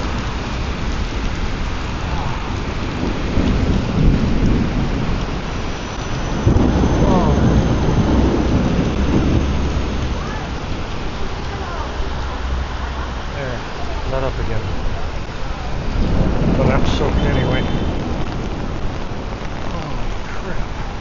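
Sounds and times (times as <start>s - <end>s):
thunder rumbling: 0.0s - 21.0s
torrential rain pouring: 0.0s - 21.0s.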